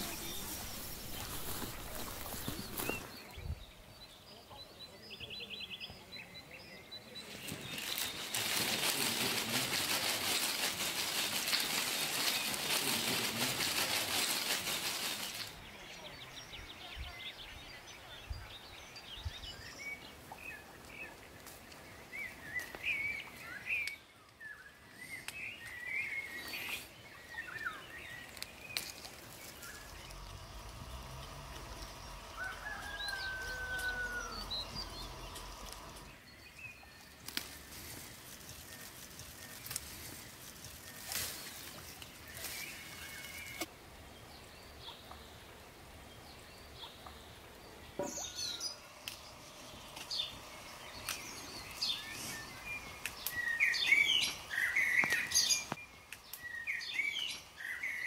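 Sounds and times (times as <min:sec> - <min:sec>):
birds chirping and calling: 0:00.0 - 0:24.1, 0:24.9 - 0:43.7, 0:46.6 - 0:58.0.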